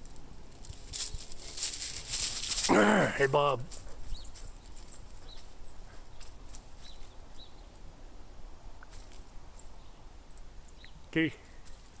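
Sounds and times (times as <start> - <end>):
small birds chirping: 1.1 - 12.0.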